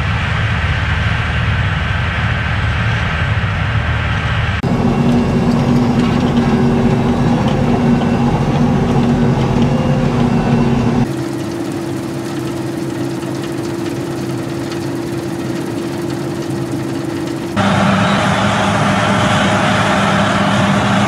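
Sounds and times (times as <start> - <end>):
combine harvester running: 1.3 - 21.0.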